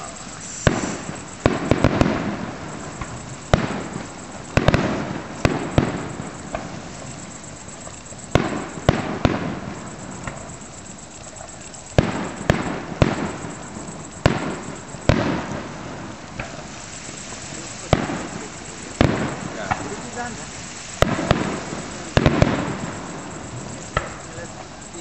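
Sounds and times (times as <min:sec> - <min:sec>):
fireworks bursting with echo: 0:00.0 - 0:25.0.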